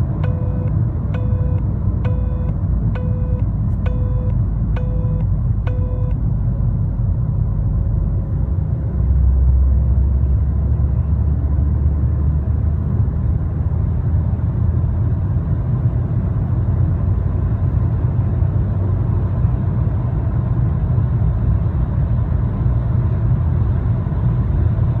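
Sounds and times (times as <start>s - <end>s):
car engine low rumble: 0.0s - 25.0s.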